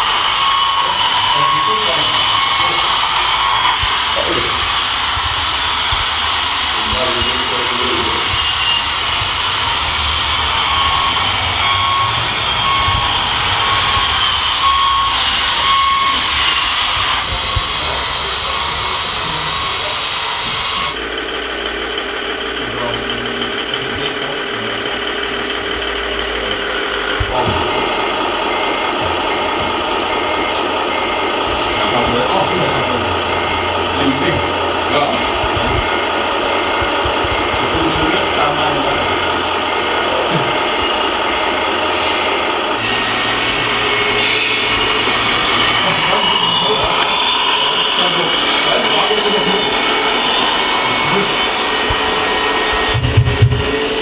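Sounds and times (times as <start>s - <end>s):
geared drives grinding and rattling: 0.0s - 54.0s
small electric motors whining: 0.0s - 54.0s.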